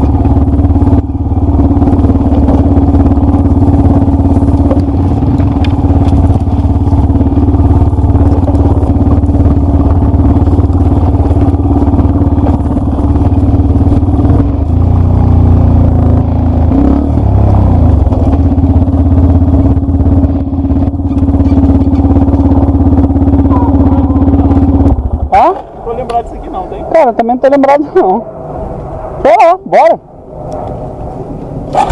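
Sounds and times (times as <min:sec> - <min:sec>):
motorcycle engine running: 0:00.0 - 0:29.1.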